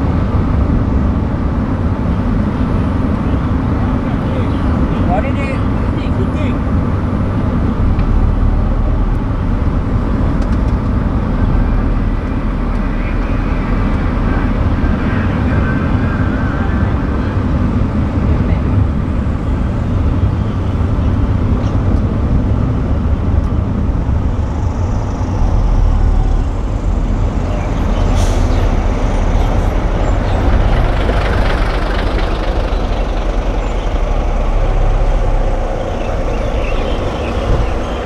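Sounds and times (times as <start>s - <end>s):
truck diesel engine passing: 0.0s - 38.0s
vehicle engine rumble and road noise: 0.0s - 38.0s.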